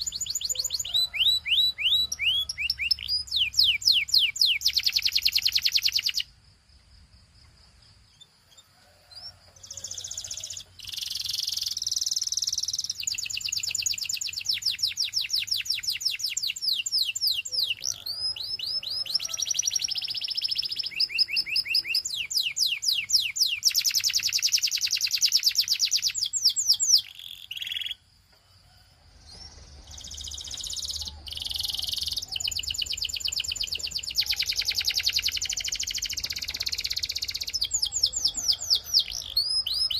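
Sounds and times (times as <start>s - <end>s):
canary singing trills: 0.0s - 6.3s, 8.0s - 28.1s, 29.2s - 39.9s.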